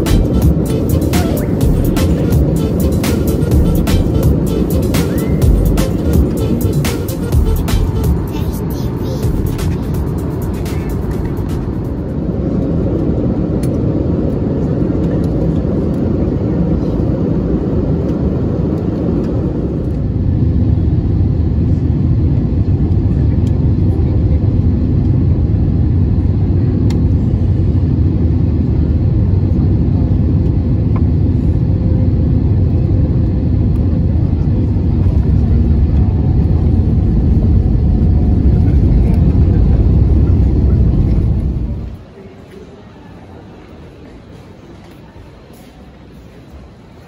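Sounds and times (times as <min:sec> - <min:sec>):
jet engine rumble in cabin: 0:00.0 - 0:47.0.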